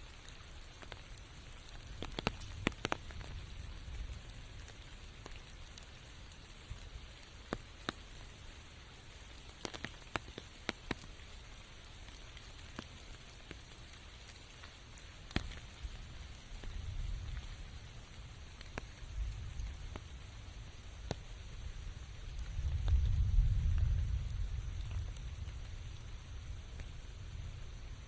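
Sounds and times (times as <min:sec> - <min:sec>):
steady rain in forest: 0:00.0 - 0:28.0.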